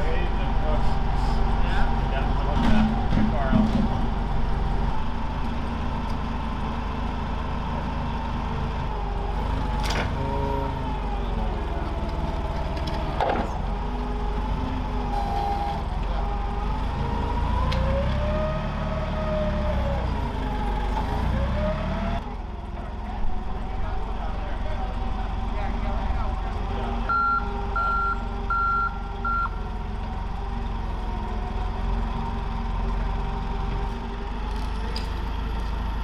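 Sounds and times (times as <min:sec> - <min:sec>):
forklift engine running: 0:00.0 - 0:36.0.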